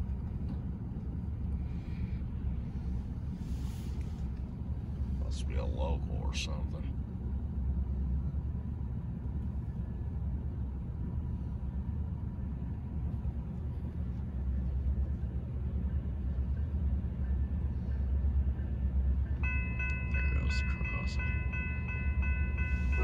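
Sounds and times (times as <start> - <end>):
diesel locomotive rumble: 0.0 - 23.0.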